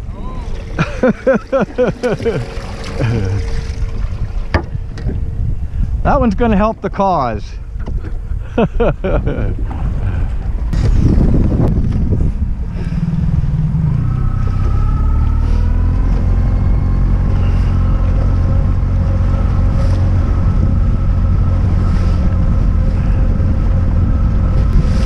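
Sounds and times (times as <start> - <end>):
outboard motor running: 0.0 - 5.9, 9.4 - 25.0.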